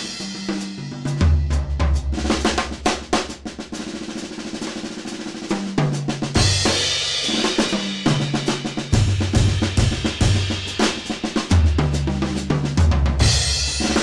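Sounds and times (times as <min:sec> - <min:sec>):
snare drum strokes: 0:00.0 - 0:14.0.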